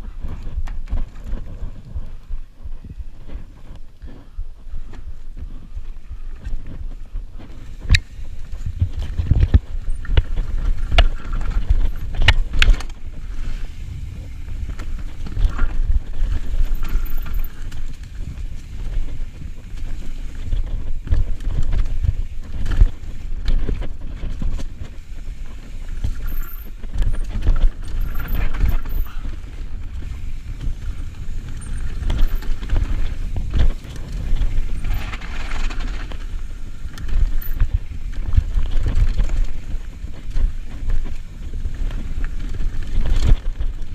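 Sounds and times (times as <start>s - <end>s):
wind rumble on microphone: 0.0s - 43.9s
bike knocking and clattering on rocks: 0.1s - 13.3s, 14.2s - 43.9s.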